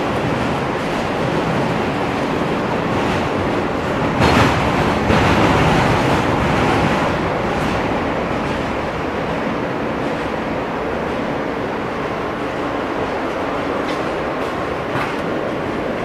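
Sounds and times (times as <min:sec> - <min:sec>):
subway train running on rails: 0:00.0 - 0:16.0
train car rattling: 0:00.0 - 0:16.0.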